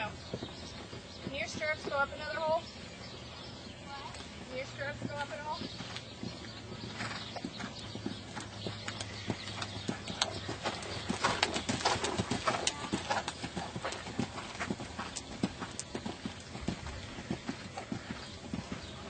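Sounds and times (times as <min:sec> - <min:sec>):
horse hoofbeats on dirt: 0:00.0 - 0:19.0.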